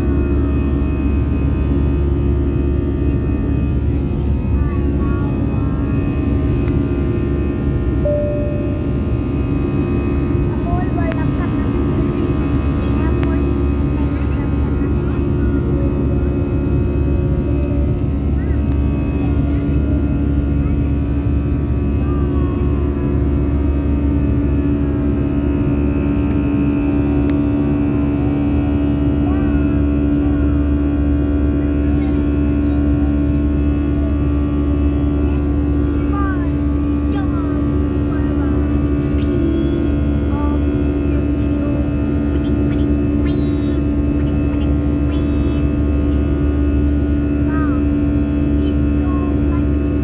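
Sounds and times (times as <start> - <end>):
aeroplane engines rumbling: 0.0 - 50.0.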